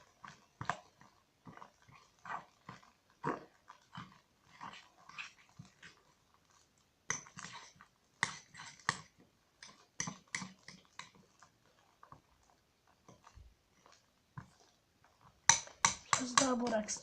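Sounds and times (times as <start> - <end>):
slime squelching: 0.0 - 17.0.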